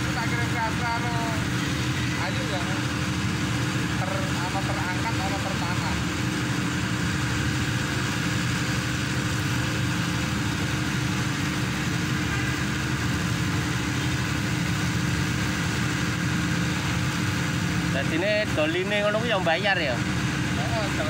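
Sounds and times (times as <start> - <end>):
pile driver engine droning: 0.0 - 21.0.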